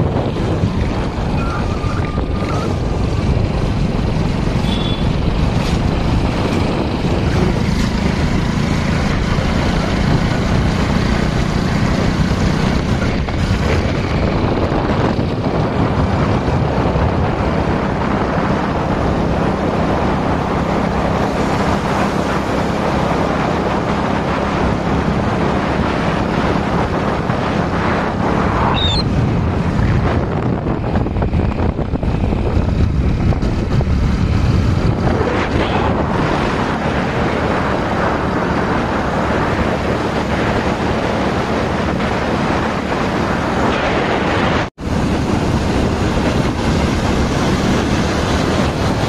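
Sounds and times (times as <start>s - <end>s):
motorcycle engine running: 0.0s - 44.0s
wind rushing over microphone: 0.0s - 49.0s.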